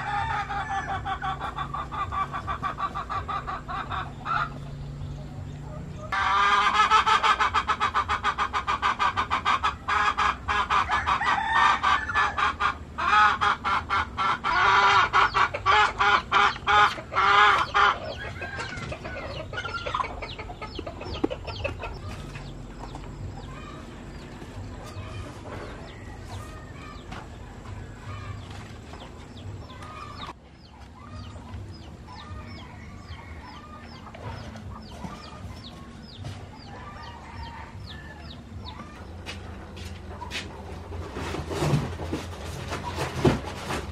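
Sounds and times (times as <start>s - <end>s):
chickens clucking and chirping: 0.0s - 43.9s.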